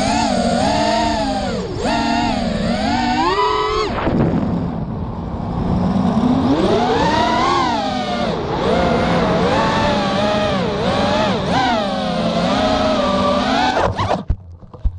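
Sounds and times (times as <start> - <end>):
drone motors whining: 0.0 - 14.3.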